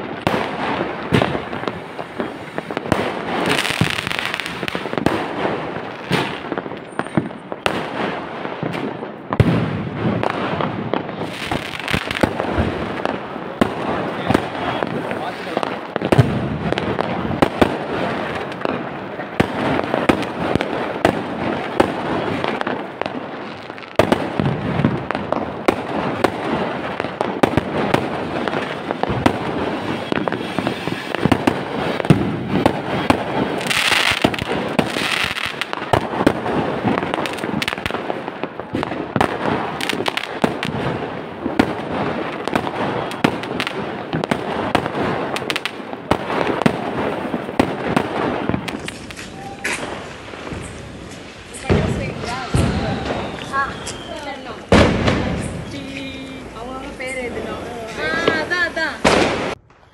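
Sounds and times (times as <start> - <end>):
fireworks bangs and crackling: 0.0 - 59.9
firework hiss: 0.4 - 6.4, 11.2 - 38.3, 39.2 - 59.6.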